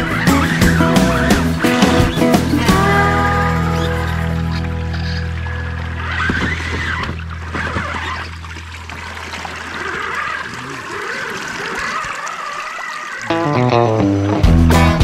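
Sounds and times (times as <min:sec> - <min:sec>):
water splashing and trickling: 0:00.0 - 0:14.7.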